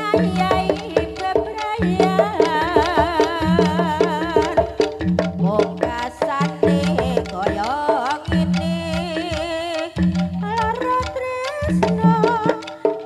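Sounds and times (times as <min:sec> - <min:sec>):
drums and gong percussion: 0:00.0 - 0:13.0
wavering melody line: 0:00.0 - 0:13.0.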